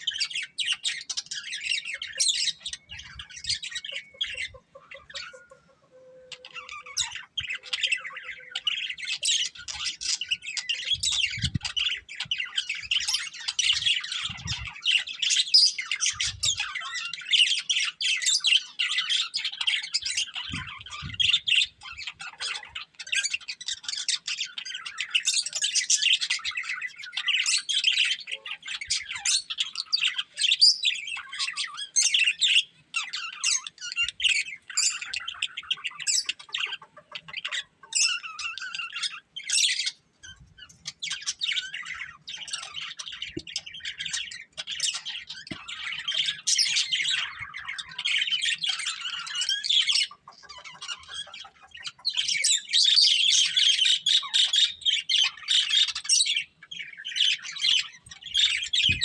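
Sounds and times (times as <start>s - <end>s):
budgerigars chirping and squawking: 0.0s - 59.0s.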